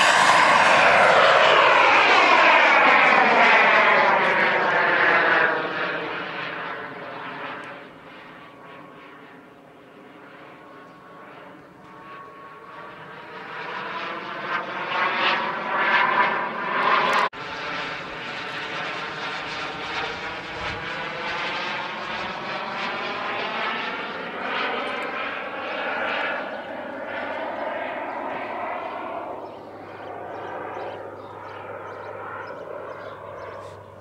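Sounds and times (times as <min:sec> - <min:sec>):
model jet engine in flight: 0:00.0 - 0:34.0.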